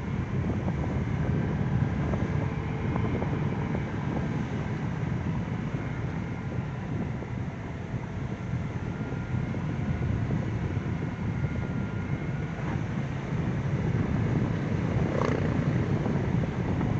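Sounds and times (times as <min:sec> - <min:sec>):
car engine and tyre rumble: 0:00.0 - 0:16.9.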